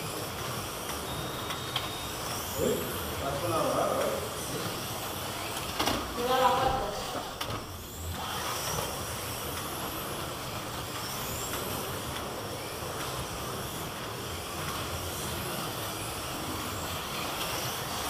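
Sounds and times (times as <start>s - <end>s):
high motor whines: 0.0s - 18.0s
slot car motors whirring: 0.0s - 18.0s.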